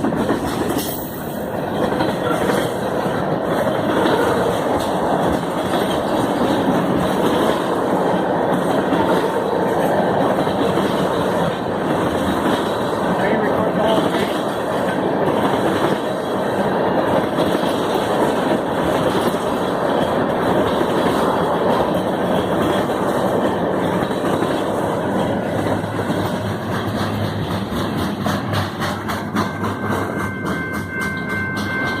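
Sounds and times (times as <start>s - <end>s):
freight train cars rolling past: 0.0s - 32.0s
wheels clacking over rail joints: 0.0s - 32.0s.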